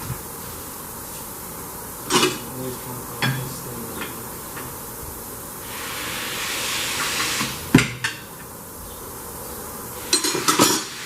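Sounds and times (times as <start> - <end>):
compressed air hissing: 0.0 - 8.3, 9.7 - 11.0.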